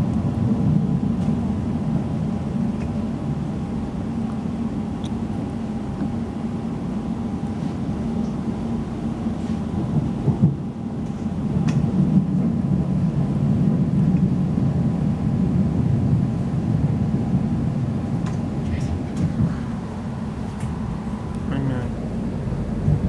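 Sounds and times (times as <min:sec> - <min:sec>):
faint constant whine: 0:00.0 - 0:23.0
train wheels rumbling on rails: 0:00.0 - 0:23.0.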